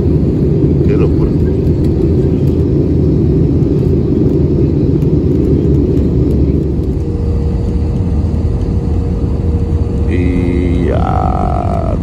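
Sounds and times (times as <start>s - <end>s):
jet engine cabin roar: 0.0s - 12.0s
steady hum: 0.0s - 12.0s.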